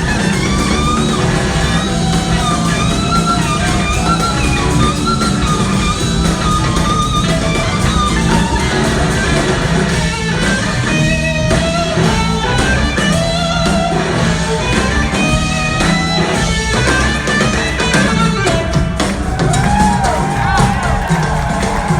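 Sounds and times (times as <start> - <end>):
electric guitar lead: 0.0 - 21.7
bass and drums: 0.0 - 21.9.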